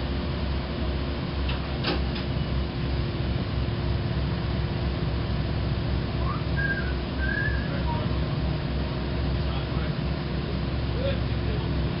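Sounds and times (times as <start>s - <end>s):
machinery rumble and hum: 0.0s - 12.0s.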